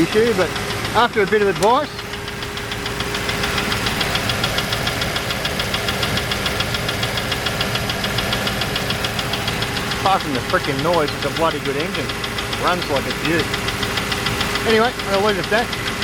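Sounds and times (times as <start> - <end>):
engine idling with knocking tick: 0.0 - 16.0.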